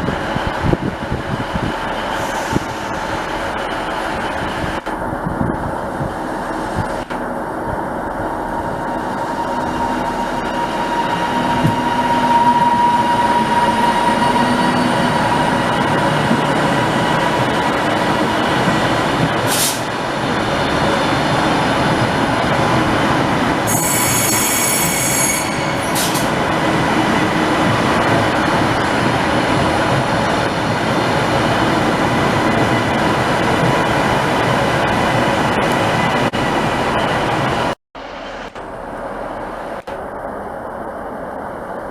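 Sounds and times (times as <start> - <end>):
train running on tracks: 0.0 - 41.9.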